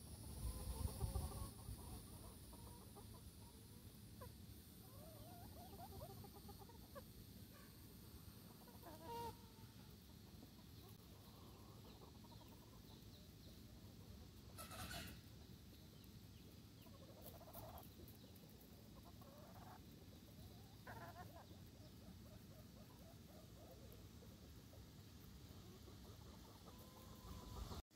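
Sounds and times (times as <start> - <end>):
chickens clucking: 0.0 - 27.8.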